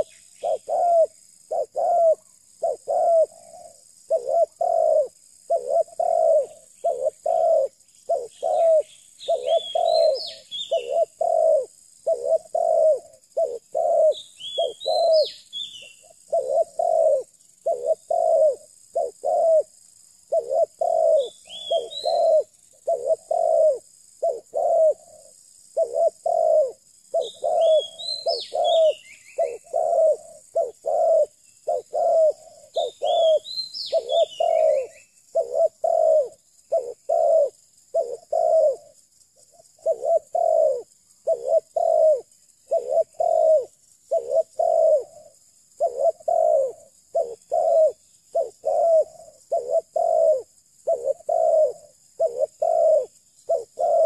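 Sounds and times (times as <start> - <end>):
dove cooing: 0.0 - 54.0
small bird chirping: 0.0 - 54.0.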